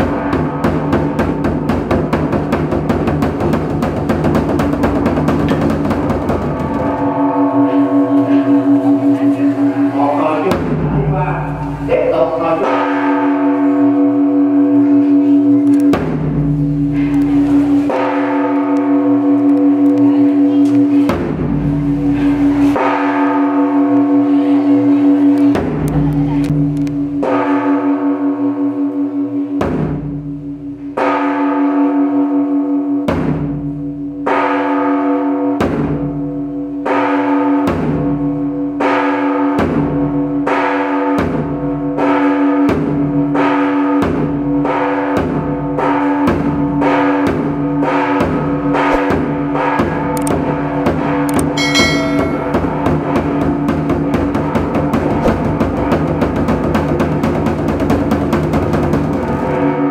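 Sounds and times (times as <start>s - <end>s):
large bell struck ringing: 0.0s - 2.1s, 5.8s - 25.9s, 26.6s - 53.7s
big drum beaten: 0.0s - 28.8s, 29.4s - 31.2s, 35.5s - 59.9s.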